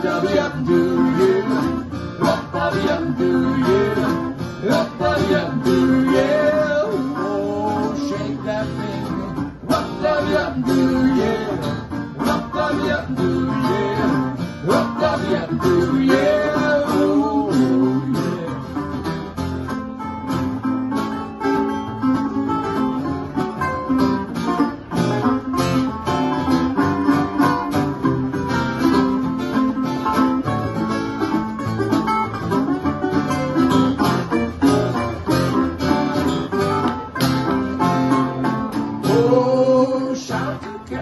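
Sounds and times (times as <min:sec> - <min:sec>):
two guitars playing blues: 0:00.0 - 0:41.0.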